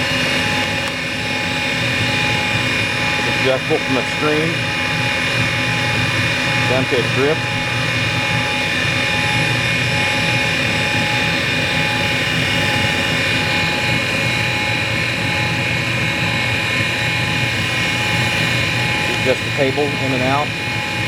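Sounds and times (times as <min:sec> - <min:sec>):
grinding machine motor humming: 0:00.0 - 0:21.0.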